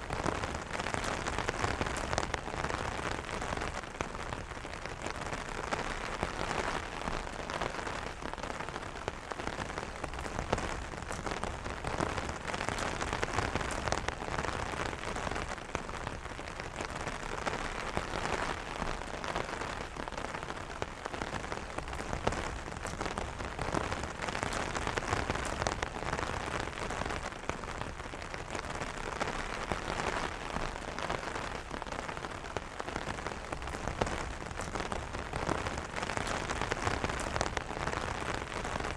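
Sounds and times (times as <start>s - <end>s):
rain pattering on umbrella: 0.0s - 38.9s.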